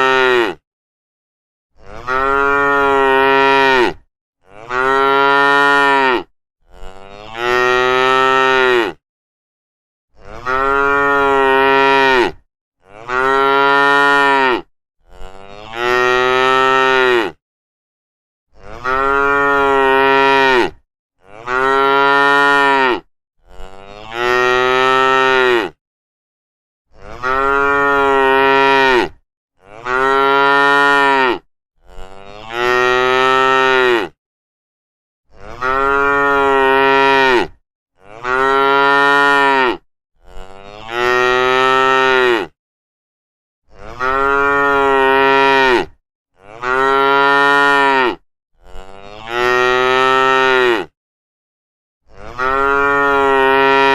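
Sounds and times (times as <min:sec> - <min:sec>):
cattle mooing: 0:01.8 - 0:09.0, 0:10.2 - 0:17.4, 0:18.6 - 0:25.8, 0:27.0 - 0:34.2, 0:35.4 - 0:42.5, 0:43.8 - 0:50.9, 0:52.2 - 0:53.9.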